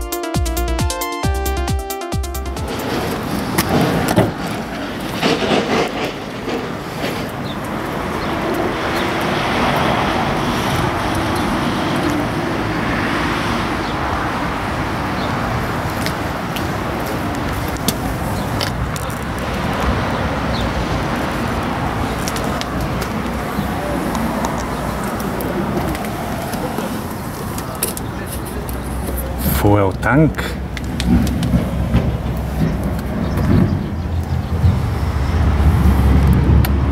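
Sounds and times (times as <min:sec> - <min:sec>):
traffic rumble: 0:02.2 - 0:36.9.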